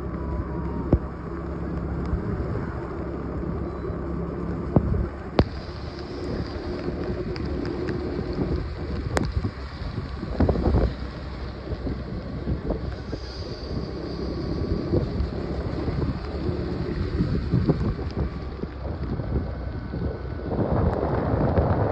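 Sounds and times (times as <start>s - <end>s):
scooter engine running: 0.0s - 21.9s
wind rushing over microphone: 0.0s - 21.9s.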